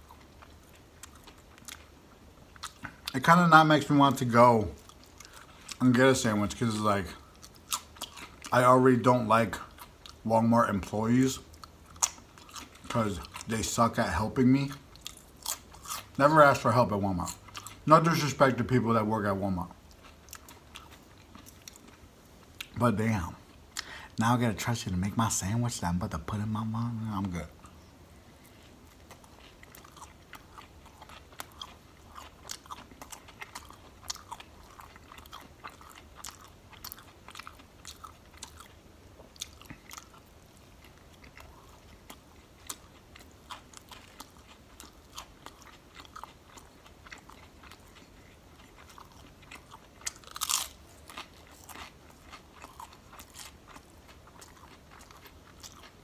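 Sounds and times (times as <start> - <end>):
man chewing: 0.0 - 3.2, 4.0 - 8.7, 11.0 - 24.2, 26.6 - 56.0.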